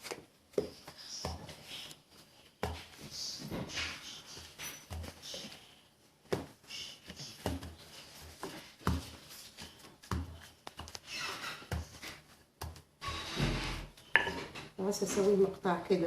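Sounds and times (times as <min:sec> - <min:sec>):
rubbing on dough: 0:00.0 - 0:13.6.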